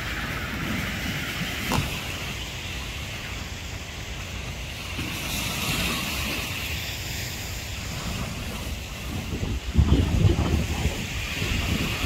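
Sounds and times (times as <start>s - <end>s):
surf breaking on rocks: 0.0s - 12.0s
wind rumbling on microphone: 0.0s - 12.0s.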